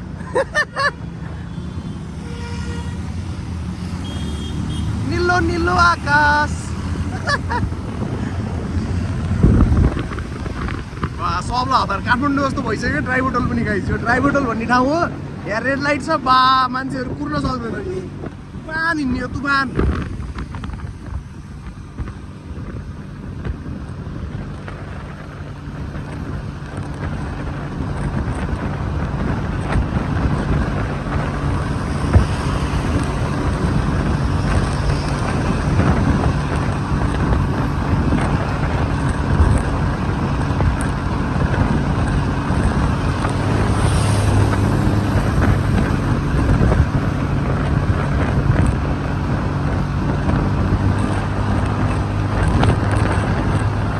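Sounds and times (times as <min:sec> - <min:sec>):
engine hum: 0:00.0 - 0:53.9
wind rushing over microphone: 0:00.0 - 0:53.9.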